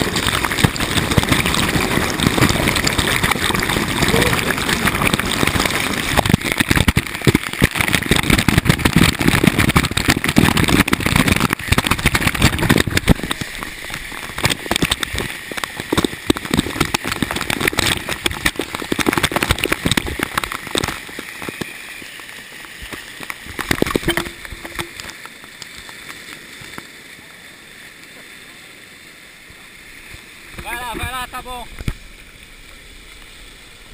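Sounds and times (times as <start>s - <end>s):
waterfall water pouring on camera: 0.0s - 33.9s.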